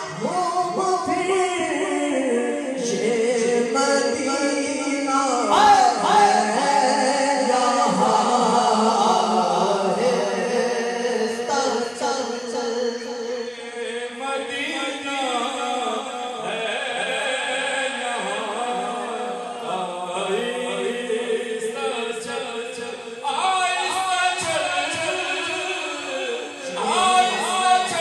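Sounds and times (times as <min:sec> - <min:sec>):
men singing unaccompanied: 0:00.0 - 0:28.0.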